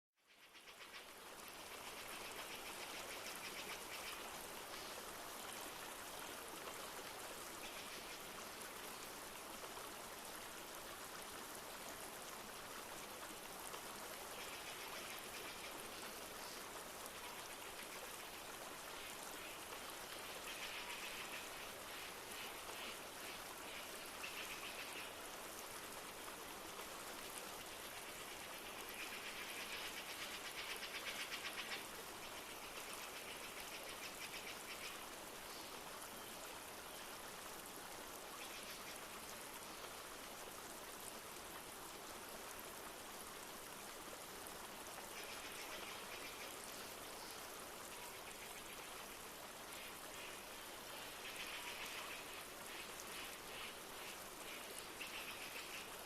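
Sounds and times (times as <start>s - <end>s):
light rain: 0.2s - 56.0s
stream flowing: 0.2s - 56.0s.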